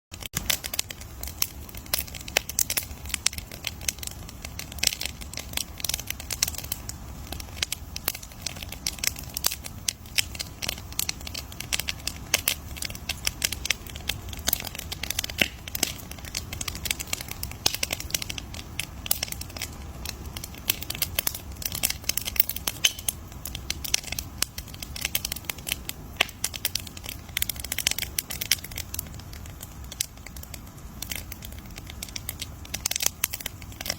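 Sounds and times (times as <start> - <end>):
bonfire crackling and popping: 0.1 - 33.9
low fire rumble: 0.1 - 33.9.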